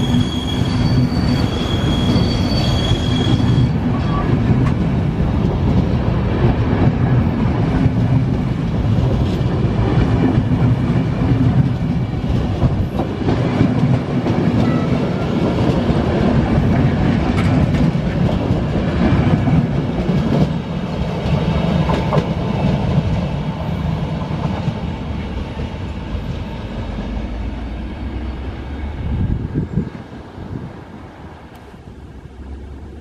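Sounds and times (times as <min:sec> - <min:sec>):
train coaches rumbling past: 0:00.0 - 0:33.0.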